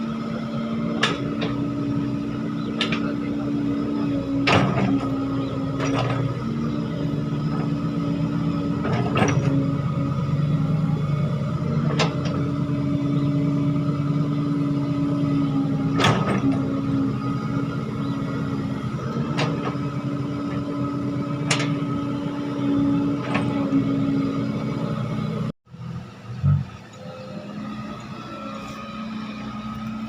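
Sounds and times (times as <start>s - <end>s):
heavy diesel engine running: 0.0s - 30.0s
quieter engine sound: 0.0s - 30.0s.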